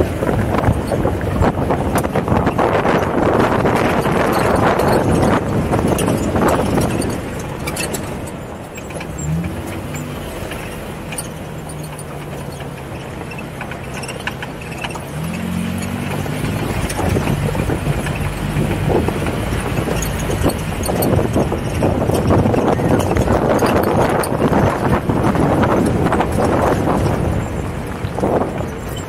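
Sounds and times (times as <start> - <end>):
engine running and revving: 0.0 - 29.0.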